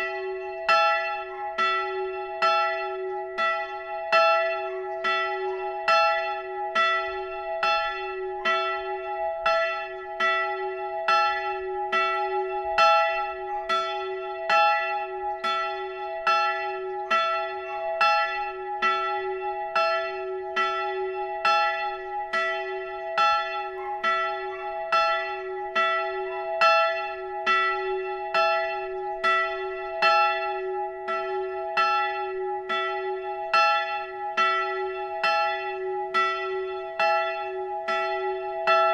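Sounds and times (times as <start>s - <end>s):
church bell tolling: 0.0s - 38.9s.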